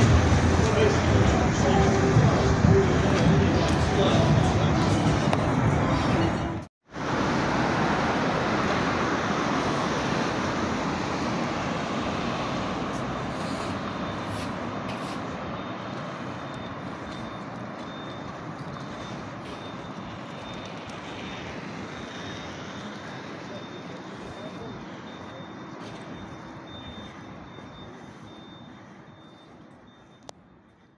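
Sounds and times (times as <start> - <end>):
vehicle passing: 0.0 - 27.1.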